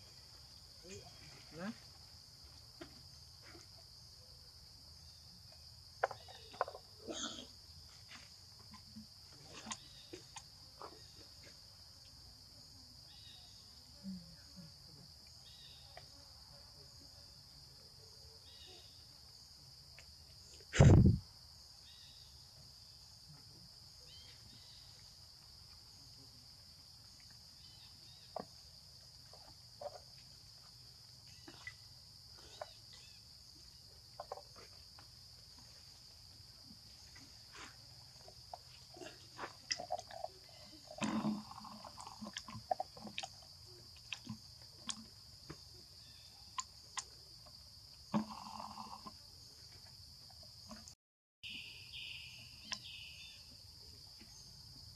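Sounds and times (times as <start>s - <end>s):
insect chorus drone: 0.0s - 54.9s.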